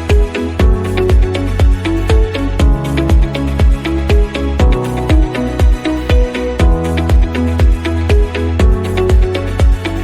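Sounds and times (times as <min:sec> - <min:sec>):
electronic dance music: 0:00.0 - 0:10.0
steady kick drum: 0:00.1 - 0:09.9.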